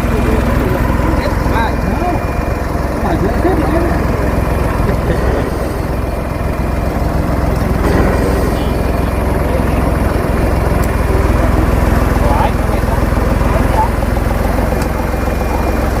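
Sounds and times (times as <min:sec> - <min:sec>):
faint voices: 0:00.0 - 0:16.0
vehicle engine idling: 0:00.0 - 0:16.0.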